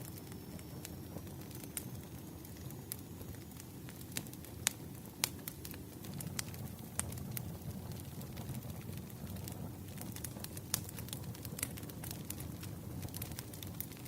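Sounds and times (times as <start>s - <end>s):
firewood crackling and popping: 0.0s - 14.0s
low fire rumble: 0.0s - 14.0s.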